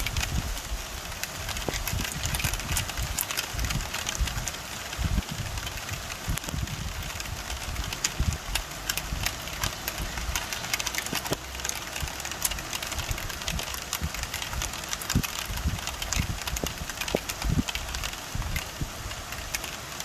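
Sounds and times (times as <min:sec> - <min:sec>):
rain drops tapping: 0:00.0 - 0:20.0
rain hiss: 0:00.0 - 0:20.0.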